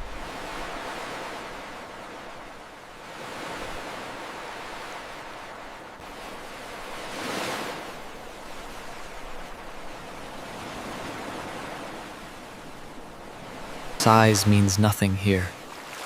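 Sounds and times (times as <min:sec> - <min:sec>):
ocean waves surging: 0:00.0 - 0:16.0.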